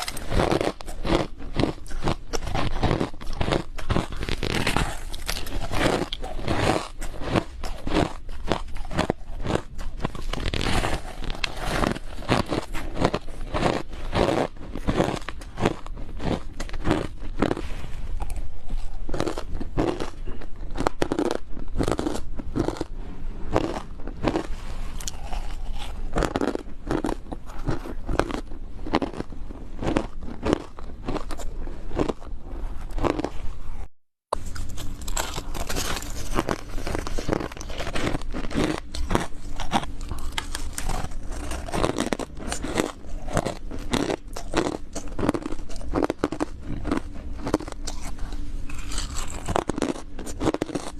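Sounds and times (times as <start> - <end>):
ice crunching between teeth: 0.0 - 22.9, 23.5 - 50.9.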